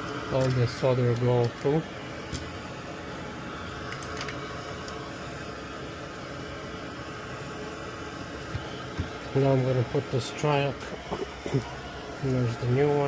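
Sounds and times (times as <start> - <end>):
fan-like whirring hum: 0.0 - 13.0.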